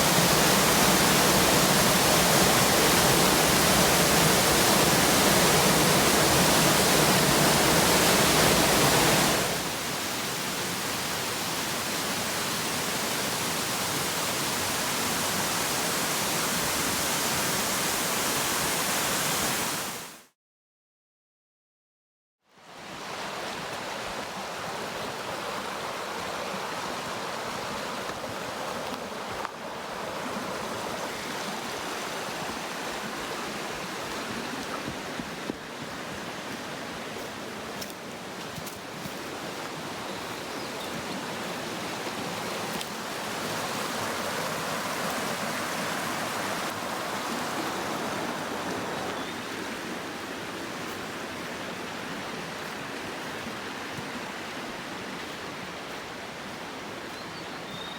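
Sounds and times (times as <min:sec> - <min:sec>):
waterfall rushing: 0:00.0 - 0:20.1, 0:22.8 - 0:57.9.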